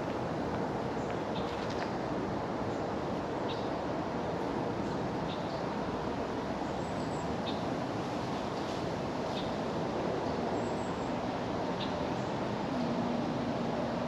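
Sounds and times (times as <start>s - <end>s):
rushing outdoor noise: 0.0s - 14.0s.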